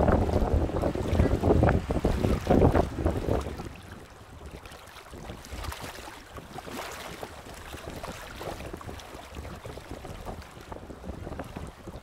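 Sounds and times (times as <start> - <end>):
water slapping against dock: 0.0 - 12.0
wind buffeting microphone: 0.0 - 12.0.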